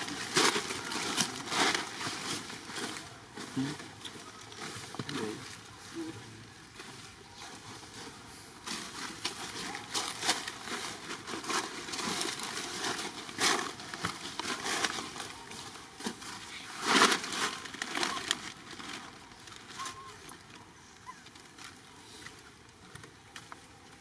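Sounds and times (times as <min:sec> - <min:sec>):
dry leaves crackling and rustling: 0:00.0 - 0:24.0.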